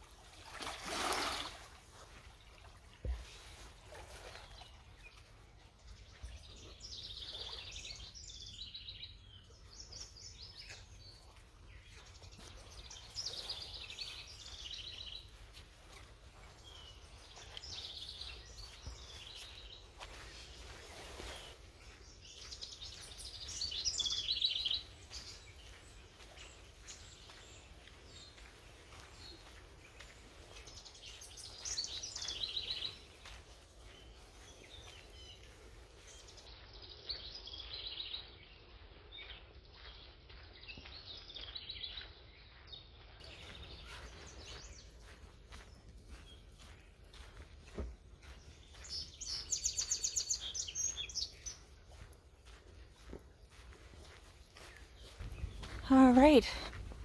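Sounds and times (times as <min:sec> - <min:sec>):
songbird singing: 0:04.2 - 0:38.6, 0:43.2 - 0:57.0.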